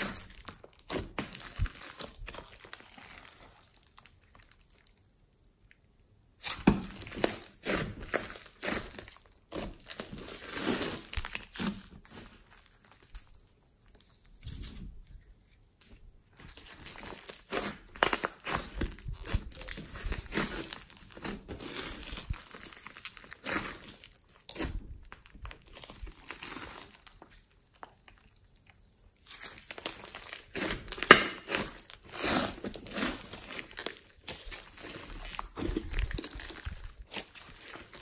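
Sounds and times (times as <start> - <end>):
slime crackling and popping: 0.0 - 14.4, 16.5 - 38.0.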